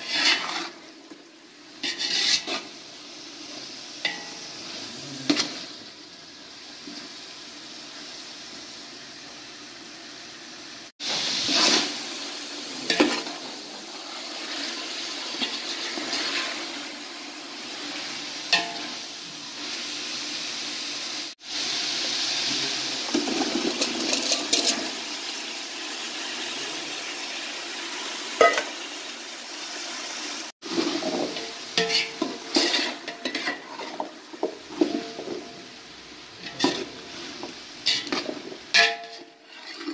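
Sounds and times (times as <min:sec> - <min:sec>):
chicken frying sizzle: 0:00.0 - 0:39.9.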